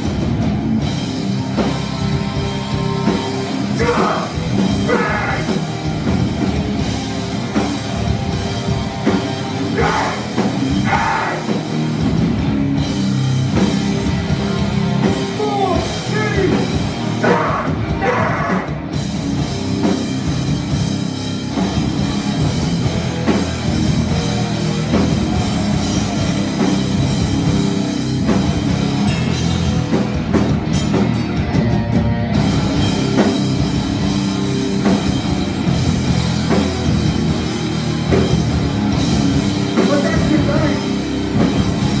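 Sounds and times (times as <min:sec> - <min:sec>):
punk band playing loud: 0:00.0 - 0:42.0.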